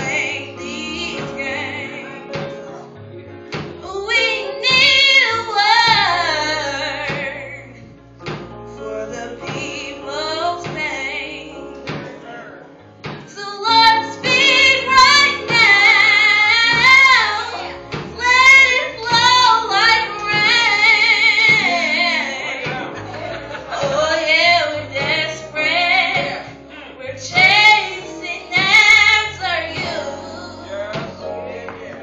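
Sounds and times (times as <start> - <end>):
woman singing gospel: 0.0 - 2.5, 3.8 - 7.9, 8.6 - 11.7, 13.2 - 32.0
low instrumental accompaniment: 0.0 - 32.0.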